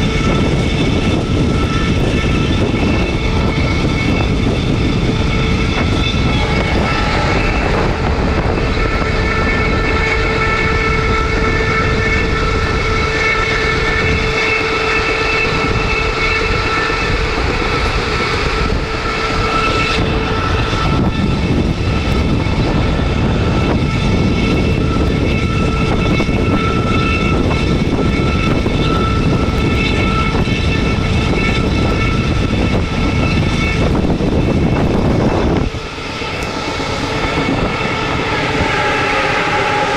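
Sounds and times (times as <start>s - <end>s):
diesel locomotive engine roaring: 0.0s - 39.9s.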